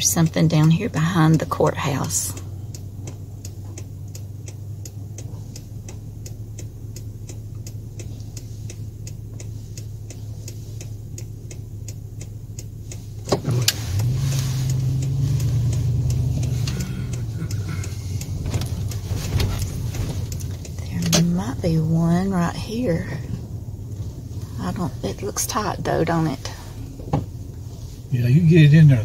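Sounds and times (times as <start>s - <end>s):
car engine hum and road noise: 0.0s - 29.0s
car turn signal ticking: 0.0s - 29.0s.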